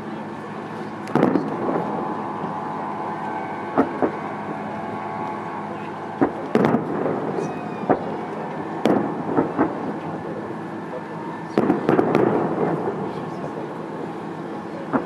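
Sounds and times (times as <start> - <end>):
background murmur: 0.0 - 15.0
firework bangs: 1.0 - 13.4.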